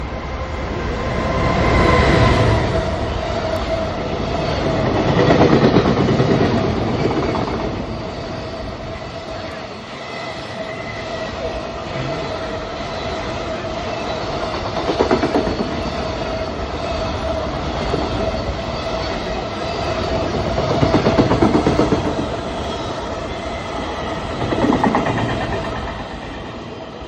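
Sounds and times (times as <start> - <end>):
locomotive whine: 0.0 - 27.0
train wheels running over rails: 0.0 - 27.0.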